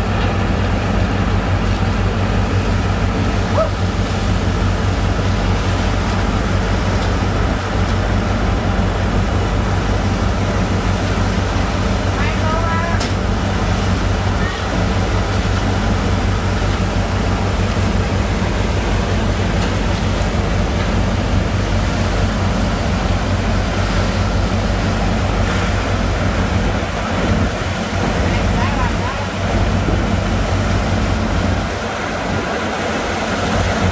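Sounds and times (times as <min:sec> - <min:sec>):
engine droning under load: 0:00.0 - 0:33.9
water and sand slurry rushing: 0:00.0 - 0:33.9.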